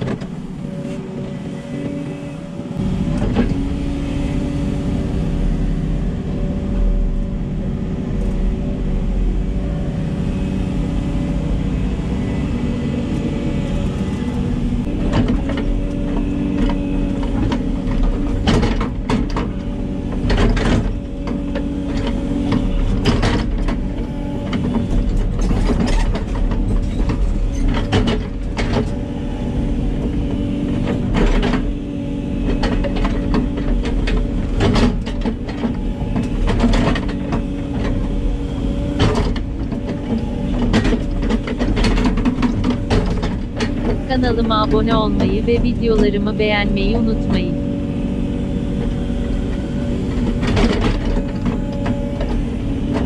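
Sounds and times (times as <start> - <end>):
excavator running: 0.0 - 53.0.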